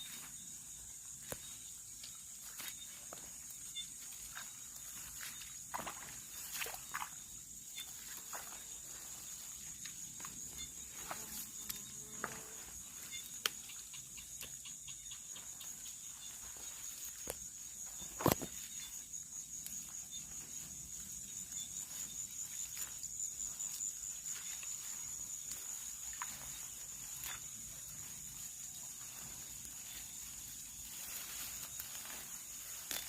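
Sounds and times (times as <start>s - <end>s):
crickets trilling: 0.0s - 33.0s
faint ticks and rustles: 0.0s - 33.0s.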